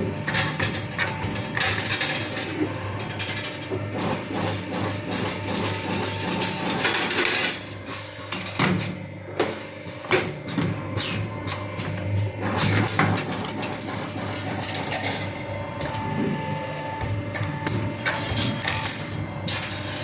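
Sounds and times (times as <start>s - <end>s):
wire bending machine humming: 0.0s - 20.0s.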